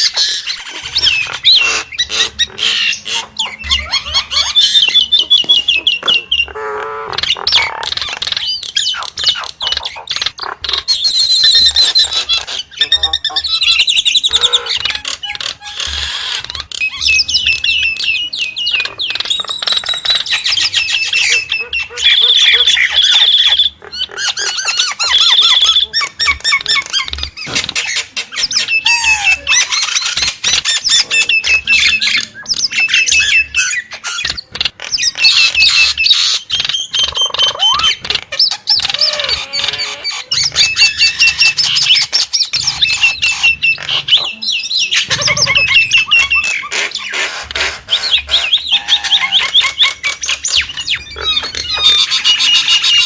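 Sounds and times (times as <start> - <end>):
myna whistling and squawking: 0.0 - 53.0.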